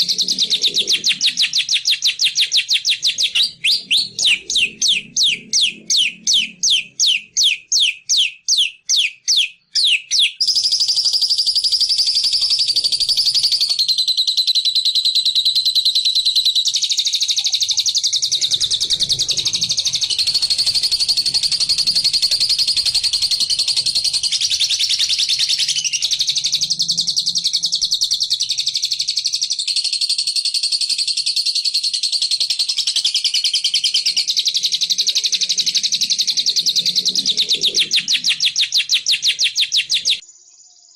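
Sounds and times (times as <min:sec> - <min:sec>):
songbird calls and trills: 0:00.0 - 0:40.9.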